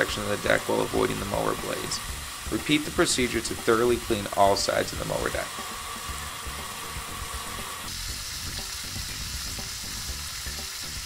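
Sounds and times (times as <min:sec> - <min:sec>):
water hissing from spray nozzle: 0:00.0 - 0:11.0.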